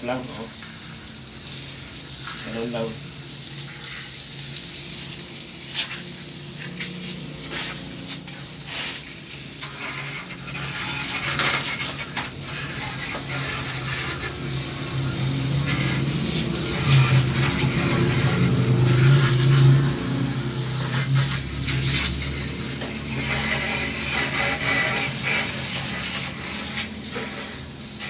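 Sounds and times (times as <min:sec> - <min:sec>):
water spraying on metal: 0:00.0 - 0:28.0.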